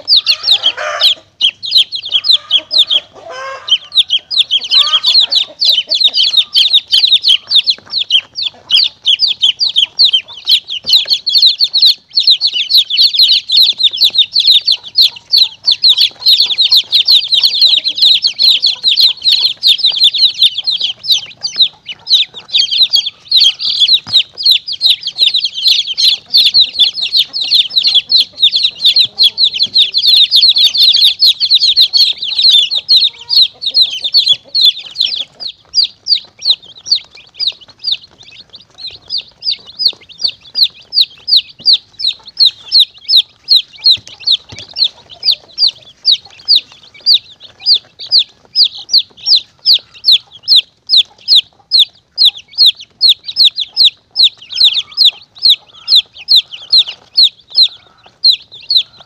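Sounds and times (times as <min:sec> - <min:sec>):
baby chicks peeping: 0:00.0 - 0:59.0.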